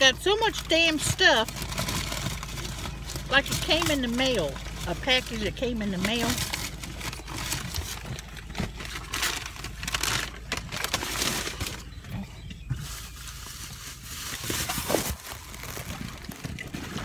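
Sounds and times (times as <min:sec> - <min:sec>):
plastic bags rustling: 0:00.0 - 0:12.0, 0:12.7 - 0:17.0.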